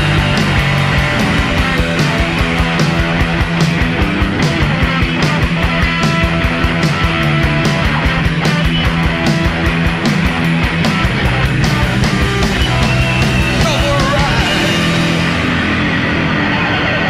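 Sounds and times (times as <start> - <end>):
driving drum beat: 0.0 - 17.0
punk rock band music: 0.0 - 17.0.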